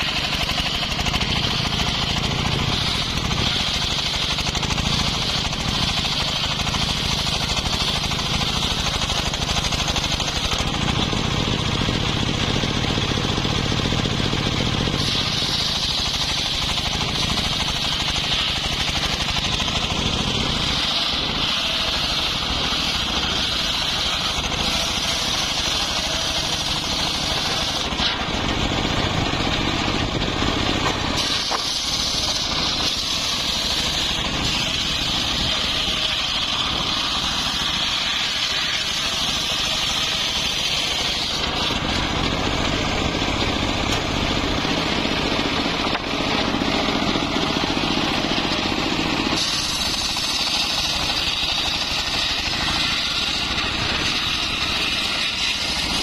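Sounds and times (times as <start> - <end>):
engine saw cutting wood: 0.0 - 56.0.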